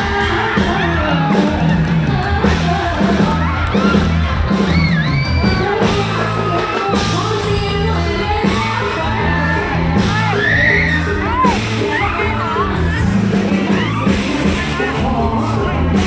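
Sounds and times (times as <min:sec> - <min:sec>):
woman singing into microphone: 0:00.0 - 0:04.0, 0:05.3 - 0:16.0
live music with bass beat: 0:00.0 - 0:16.0.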